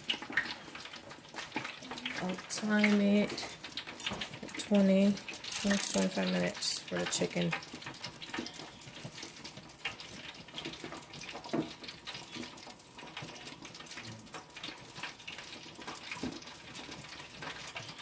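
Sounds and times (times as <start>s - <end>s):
hot oil bubbling and crackling: 0.0s - 18.0s.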